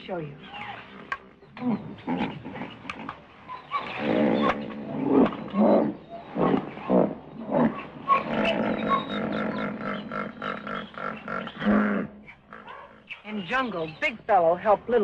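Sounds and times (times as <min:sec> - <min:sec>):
elephants calling: 0:00.1 - 0:14.0.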